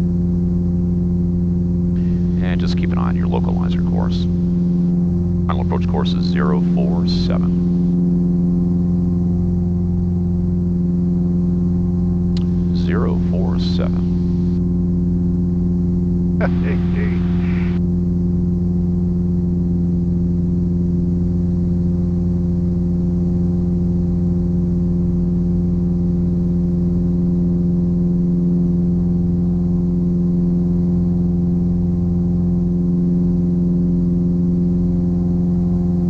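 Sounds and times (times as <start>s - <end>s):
aircraft engine droning: 0.0s - 36.0s.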